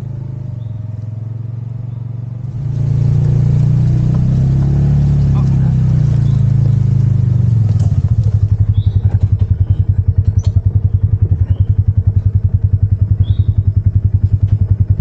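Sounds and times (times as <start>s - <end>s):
single-cylinder engine idling: 0.0s - 15.0s.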